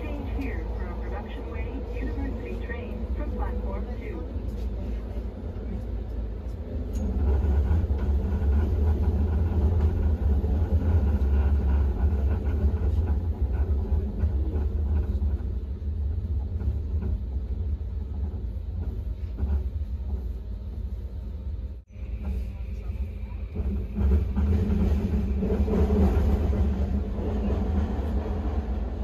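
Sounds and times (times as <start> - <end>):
train car low rumble: 0.0 - 29.0.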